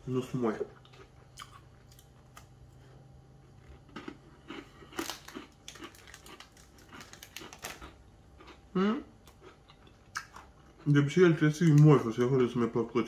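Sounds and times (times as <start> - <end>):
crunchy cookie chewing: 0.5 - 12.7.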